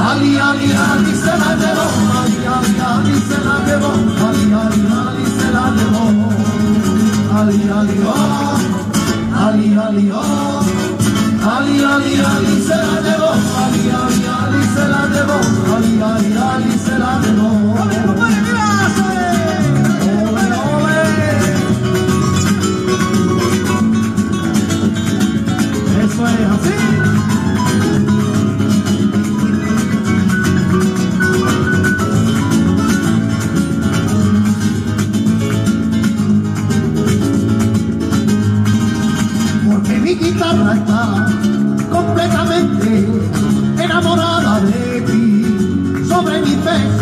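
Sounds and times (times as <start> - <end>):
strummed acoustic guitar: 0.0 - 47.0.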